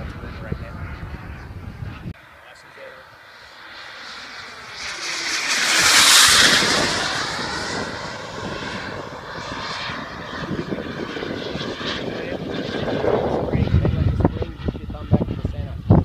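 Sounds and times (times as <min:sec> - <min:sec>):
model jet turbine whine: 0:00.0 - 0:16.0.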